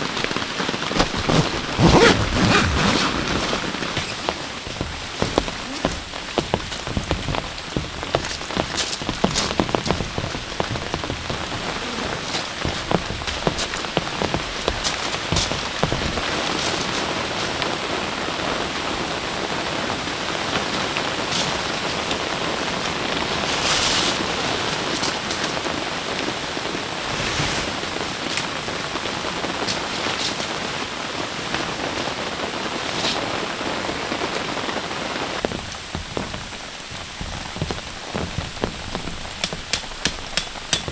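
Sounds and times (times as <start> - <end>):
heavy rain falling: 0.0 - 40.9
raindrops striking close by: 0.0 - 40.9.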